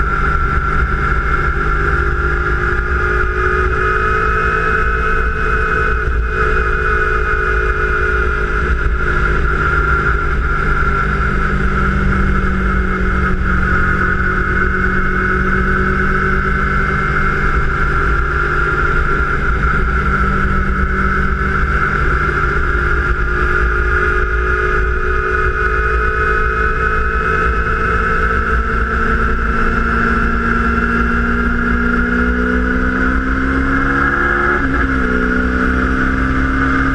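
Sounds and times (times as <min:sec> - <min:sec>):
high engine whine: 0:00.0 - 0:36.9
motorcycle engine running: 0:00.0 - 0:36.9.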